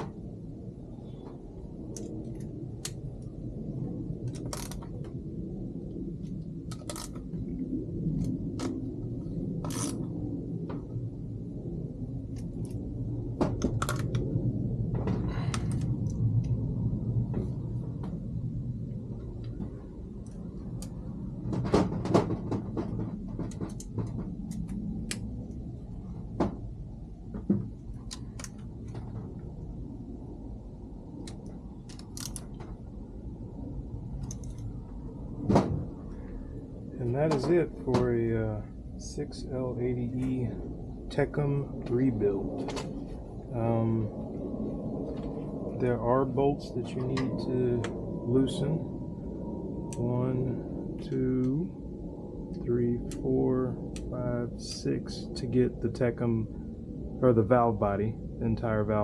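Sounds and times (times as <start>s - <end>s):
low background rumble: 0.0s - 59.0s.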